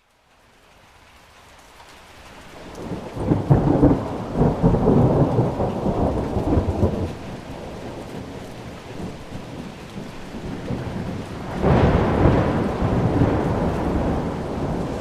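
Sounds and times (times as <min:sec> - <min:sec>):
steady rain: 0:00.0 - 0:15.0
rolling thunder: 0:02.8 - 0:15.0.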